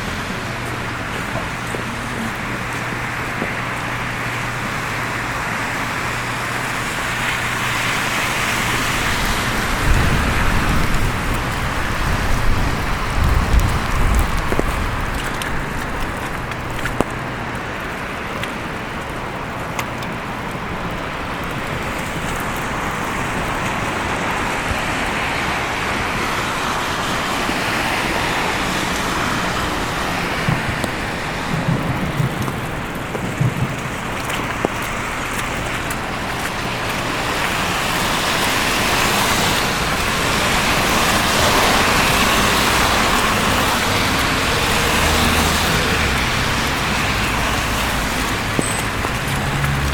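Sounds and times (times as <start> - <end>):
cars passing on snowy road: 0.0 - 49.9.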